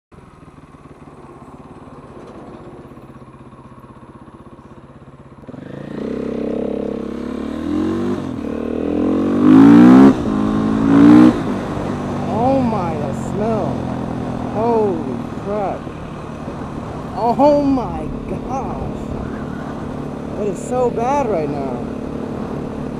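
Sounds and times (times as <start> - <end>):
motorcycle engine idling: 0.1 - 9.4, 10.2 - 22.9
motorcycle accelerating through gears: 0.2 - 22.9.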